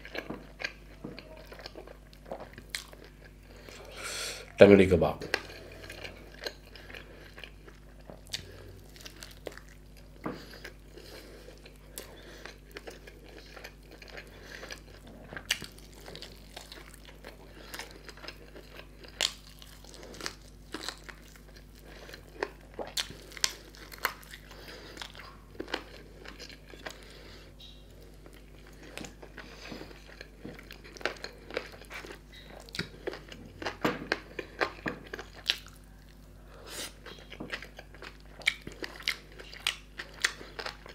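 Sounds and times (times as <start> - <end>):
biting and chewing chicken: 0.0 - 40.9
faint steady hum: 0.0 - 40.9.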